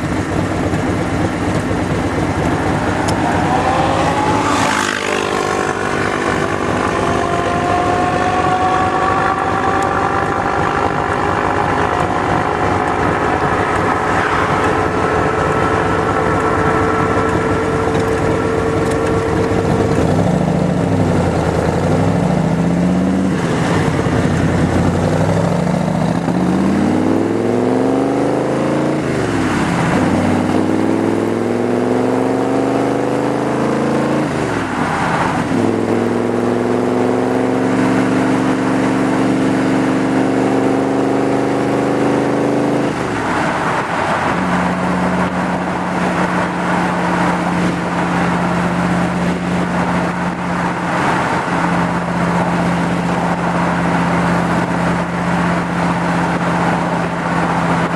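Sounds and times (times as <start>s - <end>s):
car engine accelerating through gears: 0.0s - 57.9s.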